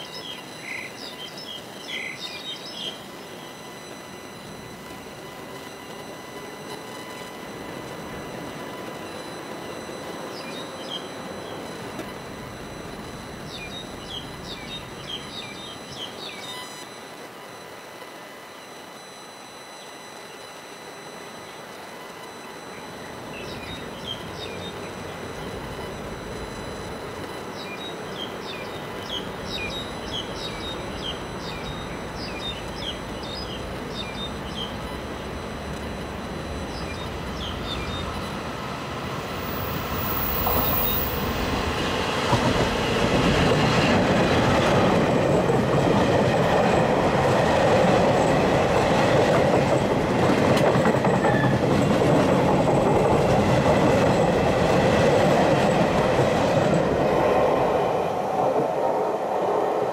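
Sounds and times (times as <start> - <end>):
train passing: 0.0 - 16.7, 22.6 - 59.9.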